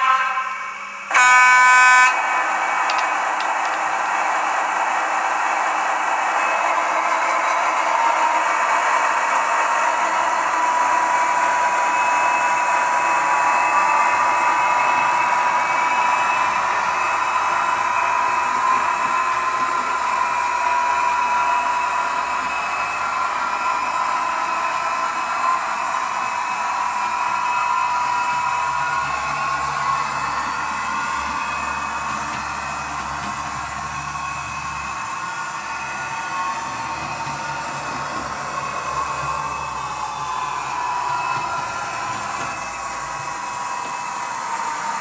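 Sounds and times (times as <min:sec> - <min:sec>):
model locomotive engine sound: 0:00.0 - 0:45.0
high steady whine: 0:01.0 - 0:45.0.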